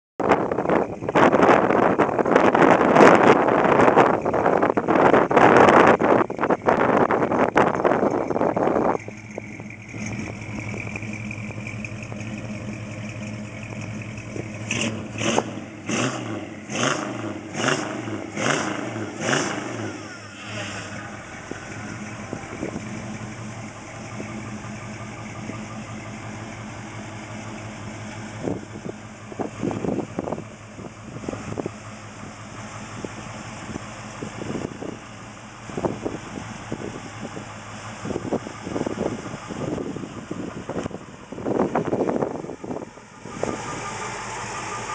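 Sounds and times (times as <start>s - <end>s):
car engine idling and revving: 0.2s - 44.9s.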